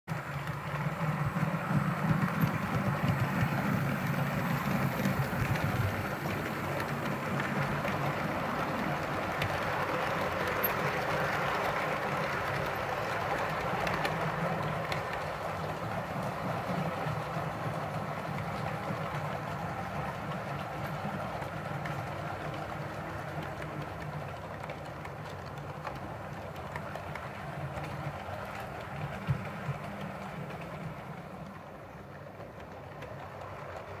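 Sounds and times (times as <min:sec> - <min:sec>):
model train whirring on track: 0:00.1 - 0:34.0.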